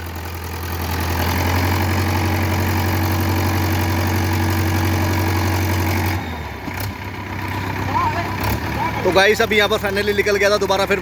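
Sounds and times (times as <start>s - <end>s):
tractor engine straining: 0.0s - 11.0s.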